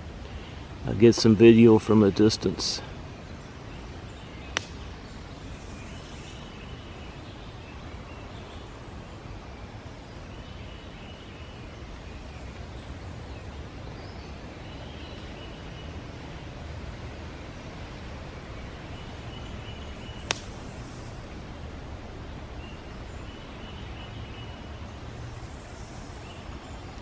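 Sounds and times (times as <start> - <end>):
distant bird calls: 0.0 - 27.0.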